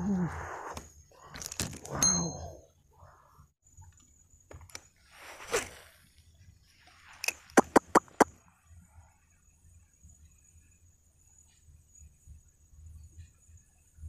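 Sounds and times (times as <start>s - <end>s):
faint high insect whine: 0.0s - 14.0s.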